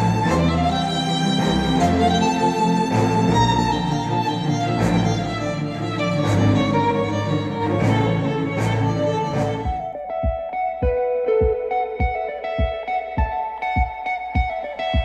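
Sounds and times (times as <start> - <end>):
cinematic string music over a beat: 0.0 - 15.0.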